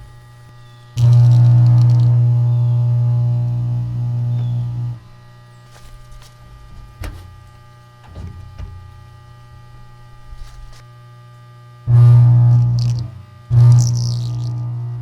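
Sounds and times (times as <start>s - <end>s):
electric arc cracking: 0.0s - 10.9s, 11.9s - 15.0s
electrical mains hum: 0.0s - 15.0s.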